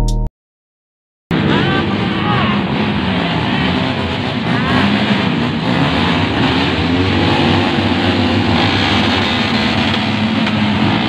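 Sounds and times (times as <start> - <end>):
small motorcycle engines revving: 1.3 - 11.0.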